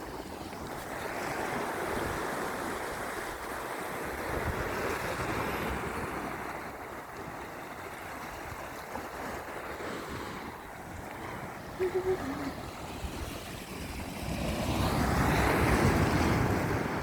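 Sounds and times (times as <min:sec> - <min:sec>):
sea surf washing in: 0:00.0 - 0:17.0
wind buffeting microphone: 0:00.0 - 0:17.0.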